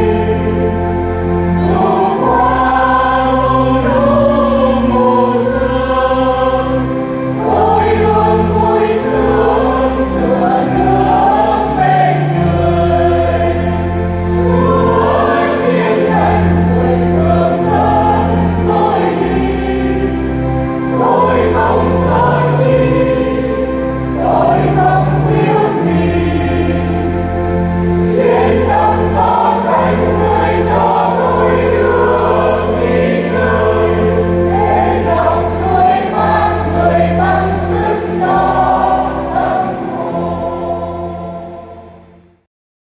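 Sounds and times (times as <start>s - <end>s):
sustained low accompaniment notes: 0.0s - 42.4s
choir singing a hymn: 0.0s - 42.5s.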